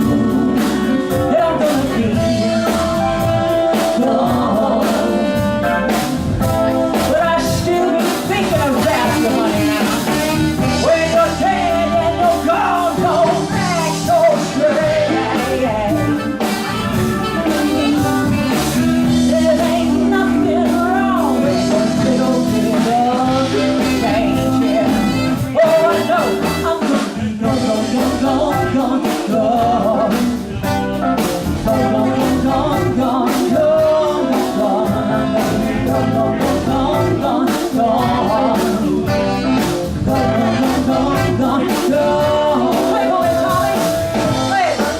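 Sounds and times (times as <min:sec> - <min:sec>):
bass: 0:00.0 - 0:44.9
bending melodic lead line: 0:00.0 - 0:44.9
drums: 0:00.0 - 0:44.9
keyboards: 0:00.0 - 0:44.9.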